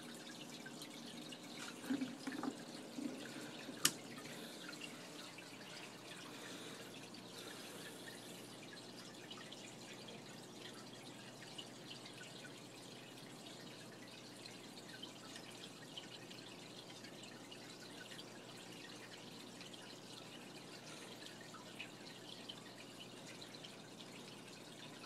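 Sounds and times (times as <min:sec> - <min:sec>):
aquarium water trickling: 0:00.0 - 0:25.0
small drips and splashes: 0:00.0 - 0:25.0.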